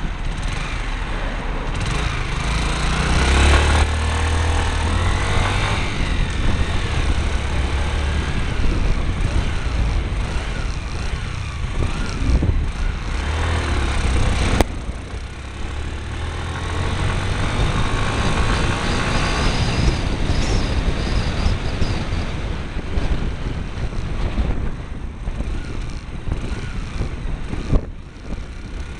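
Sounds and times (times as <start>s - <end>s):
motorbike engine revving: 0.0s - 28.9s
steady rushing noise: 0.0s - 28.9s.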